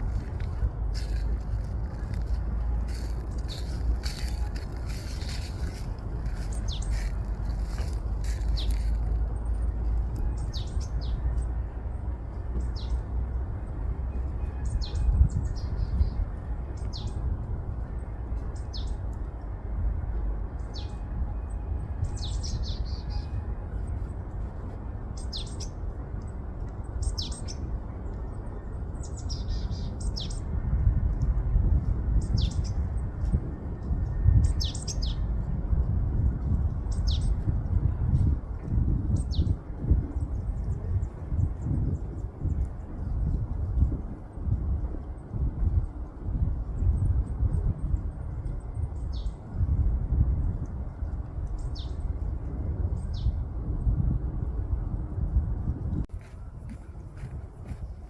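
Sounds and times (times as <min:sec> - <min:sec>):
wind rumble on microphone: 0:00.0 - 0:58.0.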